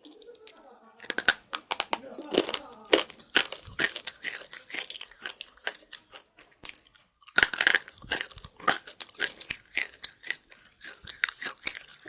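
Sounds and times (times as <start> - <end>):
pencil being chewed crunching: 0.4 - 12.0.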